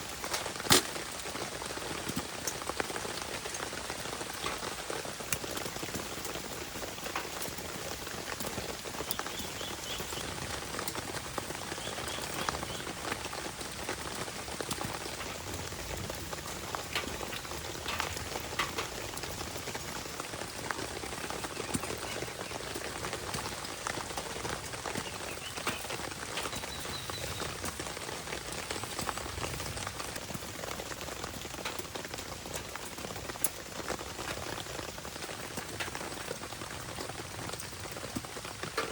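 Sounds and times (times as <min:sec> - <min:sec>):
rain falling: 0:00.0 - 0:38.9
wood fire crackling and popping: 0:00.0 - 0:38.9.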